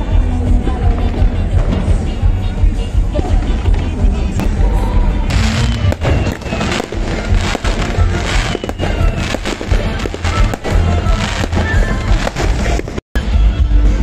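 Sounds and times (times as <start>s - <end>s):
fireworks bangs and crackles: 0.0s - 13.0s
loud music with heavy bass: 0.0s - 14.0s.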